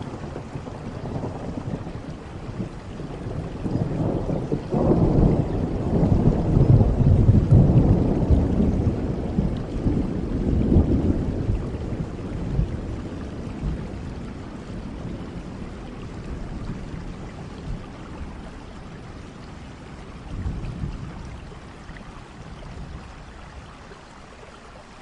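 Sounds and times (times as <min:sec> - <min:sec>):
thunder rumbling: 0:00.0 - 0:21.8
steady rain: 0:00.0 - 0:25.0.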